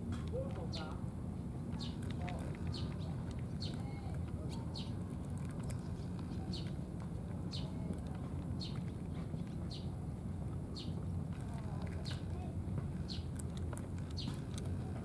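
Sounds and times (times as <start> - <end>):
low background rumble: 0.0 - 15.0
cat chewing dry food: 1.6 - 15.0.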